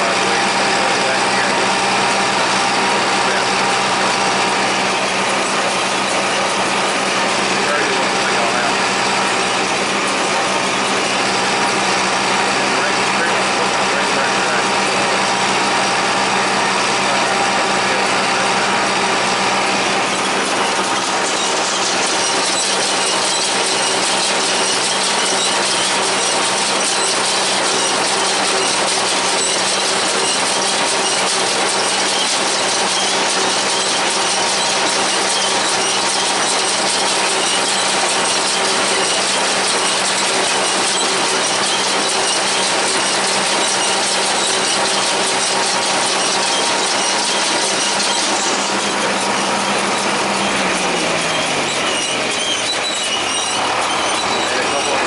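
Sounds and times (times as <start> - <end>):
baler mechanical clatter: 0.0 - 55.0
tractor engine hum: 0.0 - 55.0.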